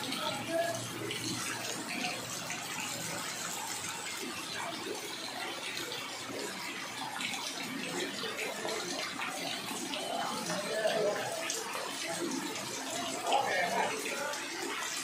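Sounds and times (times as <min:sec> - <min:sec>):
rain falling on water: 0:00.0 - 0:15.0.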